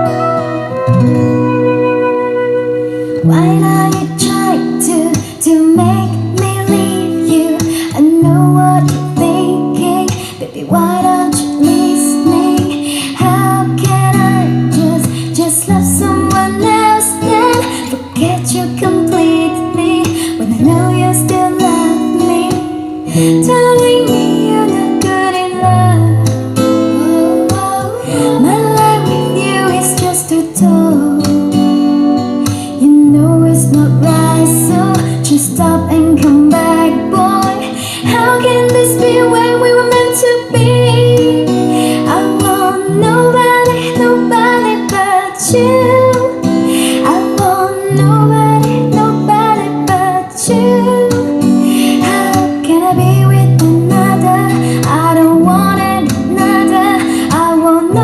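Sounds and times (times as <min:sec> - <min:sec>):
woman singing over guitar: 0:00.0 - 0:58.0.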